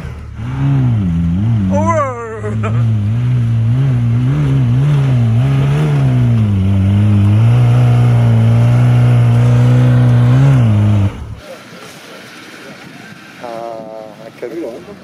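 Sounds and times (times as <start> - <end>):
off-road engine revving: 0.0 - 15.0.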